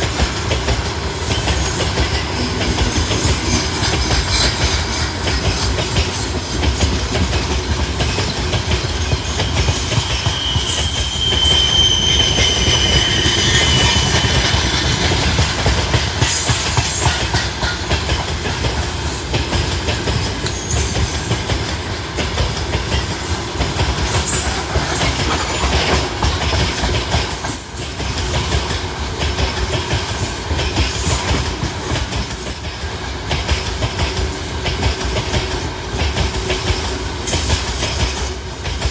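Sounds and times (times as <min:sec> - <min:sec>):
freight train wheels rumbling: 0:00.0 - 0:38.9
train wheel squealing: 0:00.0 - 0:38.9.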